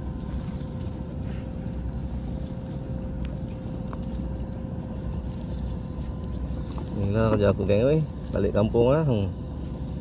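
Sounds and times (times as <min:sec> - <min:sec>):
faint steady hum: 0:00.0 - 0:10.0
net rustling on grass: 0:00.0 - 0:10.0.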